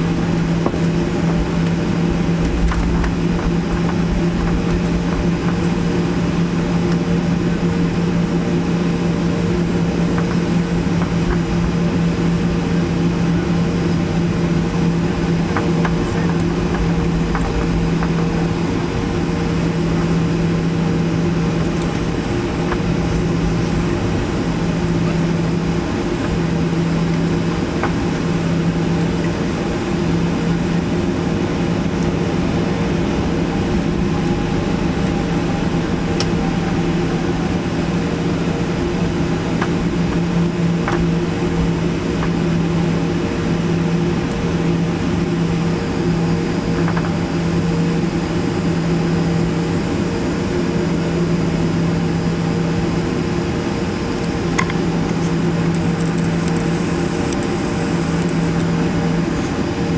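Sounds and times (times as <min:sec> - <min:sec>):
jet engines idling in cabin: 0:00.0 - 0:59.9.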